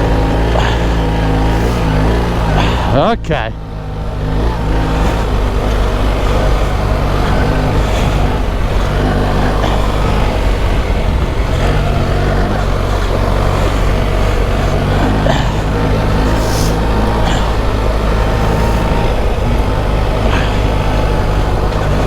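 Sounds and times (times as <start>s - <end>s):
motorcycle engine revving under load: 0.0s - 22.0s
steady rushing noise: 0.0s - 22.0s.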